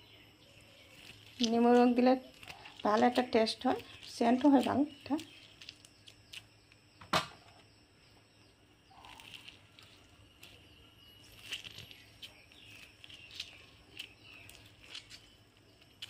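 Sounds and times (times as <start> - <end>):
faint high chirps: 0.0 - 16.0.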